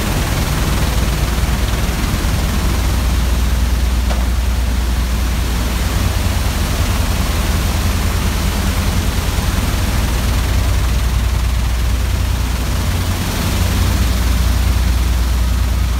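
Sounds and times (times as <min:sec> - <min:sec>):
low machine drone: 0:00.0 - 0:15.9.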